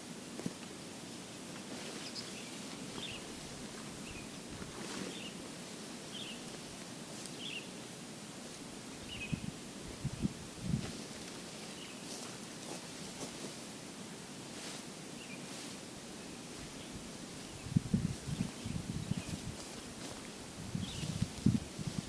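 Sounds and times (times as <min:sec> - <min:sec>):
steady forest hiss: 0:00.0 - 0:22.0.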